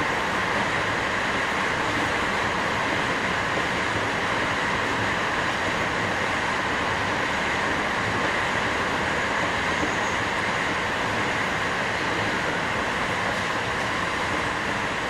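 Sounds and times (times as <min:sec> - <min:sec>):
train wheel-on-rail running noise: 0:00.0 - 0:15.0.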